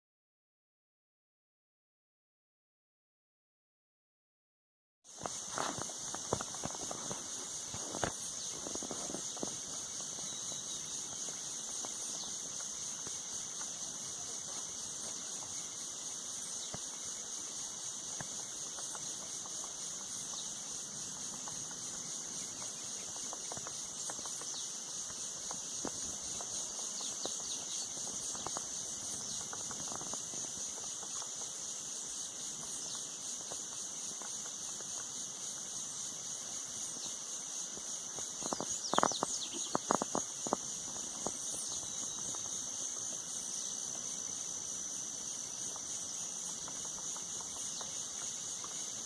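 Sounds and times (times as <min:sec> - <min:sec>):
insects chorus shrill buzz: 0:05.1 - 0:49.0.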